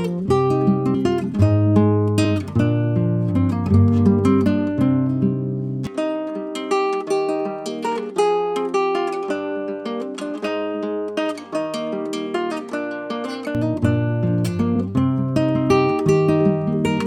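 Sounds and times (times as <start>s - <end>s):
acoustic guitar plucked notes: 0.0s - 17.0s.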